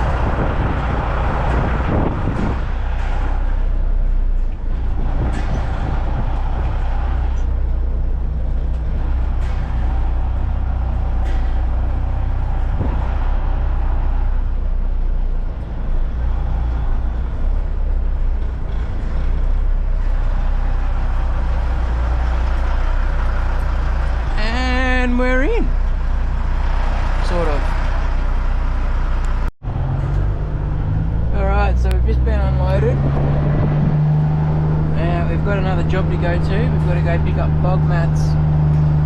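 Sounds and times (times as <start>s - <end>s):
diesel truck engine droning: 0.0s - 39.0s.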